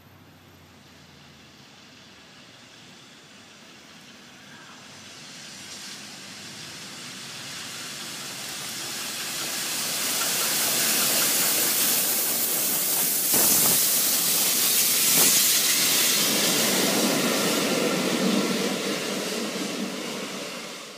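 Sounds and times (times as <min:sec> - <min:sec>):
steam locomotives passing: 0:00.0 - 0:20.9.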